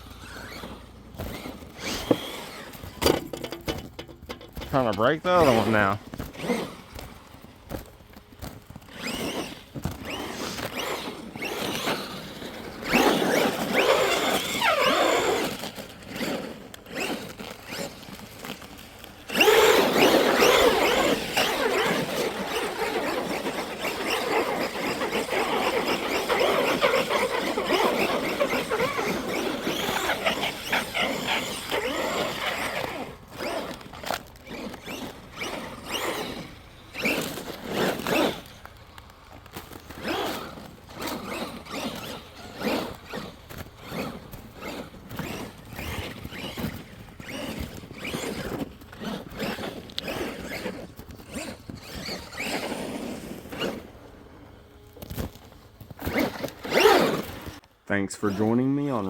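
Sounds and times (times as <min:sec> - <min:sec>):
toy truck electric motor whining: 0:00.0 - 0:03.6, 0:04.5 - 0:57.7.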